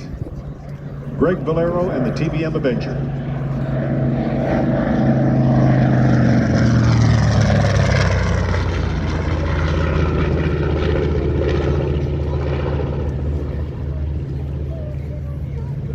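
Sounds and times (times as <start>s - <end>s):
propeller plane flyby: 0.0s - 15.9s.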